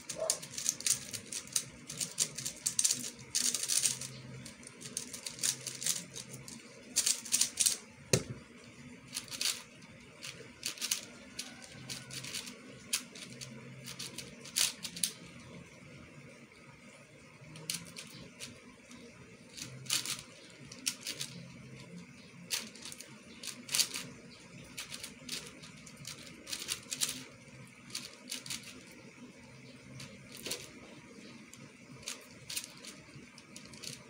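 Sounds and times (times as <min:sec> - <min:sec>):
puzzle cube clicking turns: 0:00.0 - 0:08.3, 0:09.1 - 0:15.2, 0:17.6 - 0:18.7, 0:19.5 - 0:29.0, 0:31.5 - 0:34.0.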